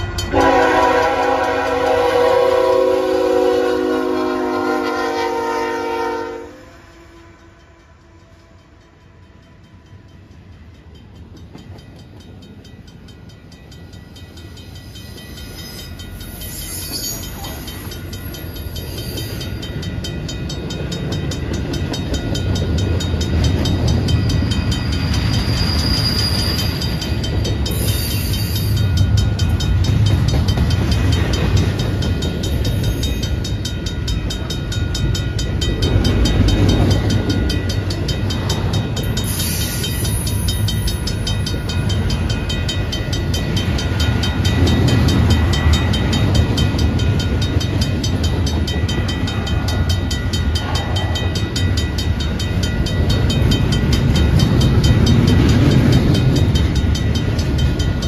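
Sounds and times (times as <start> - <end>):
crossing bell ringing: 0.0 - 58.0
freight train rumbling past: 0.0 - 58.0.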